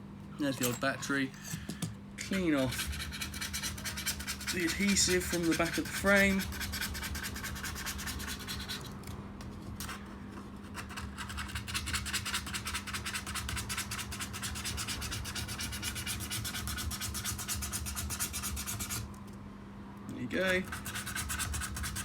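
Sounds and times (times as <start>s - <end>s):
rapid scraping of adhesive: 2.3s - 8.9s, 9.6s - 19.2s, 20.5s - 22.0s.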